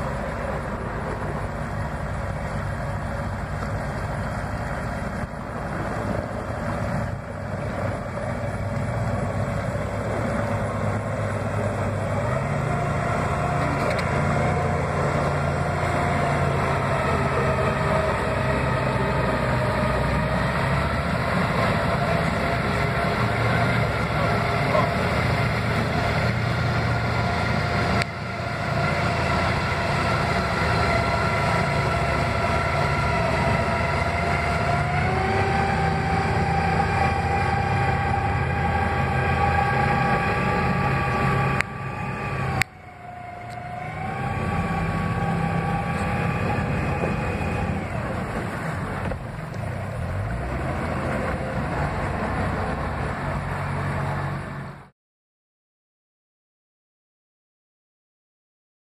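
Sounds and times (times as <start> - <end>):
outboard motors running: 0.0 - 54.9.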